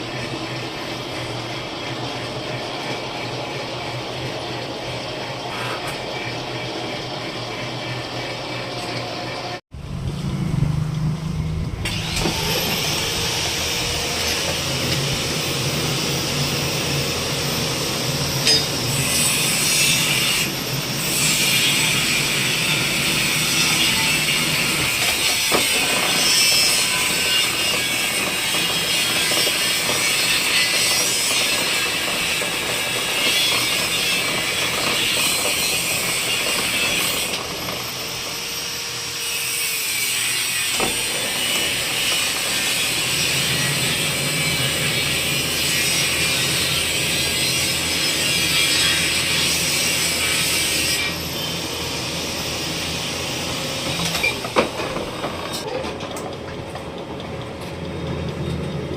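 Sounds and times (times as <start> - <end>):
workshop machinery noise: 0.0 - 58.9.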